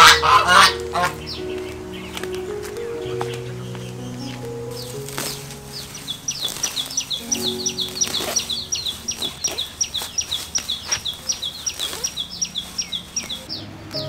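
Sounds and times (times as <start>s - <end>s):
bird chirping: 0.0s - 14.0s
plants rustling and thumping: 0.8s - 14.0s.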